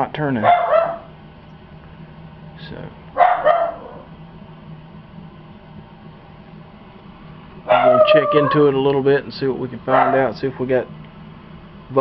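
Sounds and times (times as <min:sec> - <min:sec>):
air handler hiss with low hum: 0:00.0 - 0:12.0.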